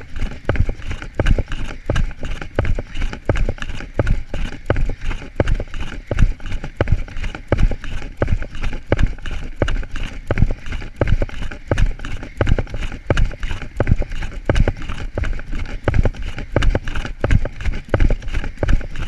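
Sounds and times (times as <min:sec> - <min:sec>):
running footsteps on grass: 0:00.0 - 0:19.0.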